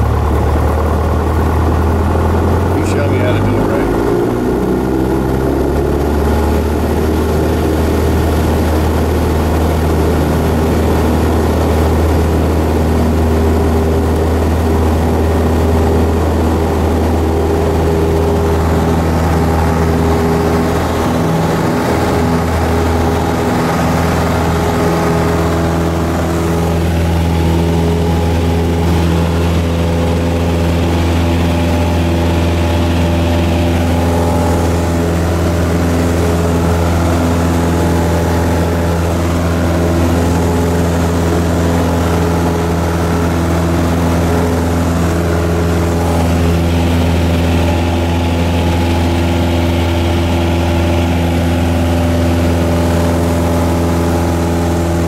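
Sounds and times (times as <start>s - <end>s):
airplane engine and propeller drone: 0.0s - 55.0s.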